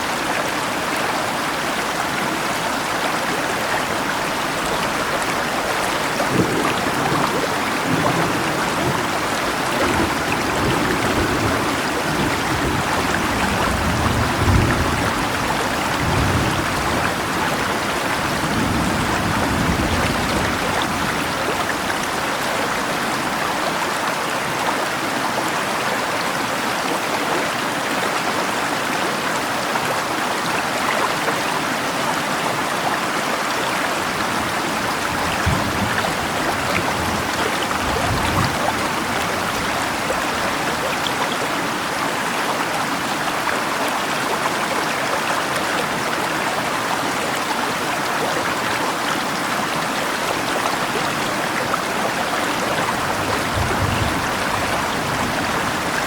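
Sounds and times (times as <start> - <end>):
rain: 0.0 - 56.0
river water rushing: 0.0 - 56.0.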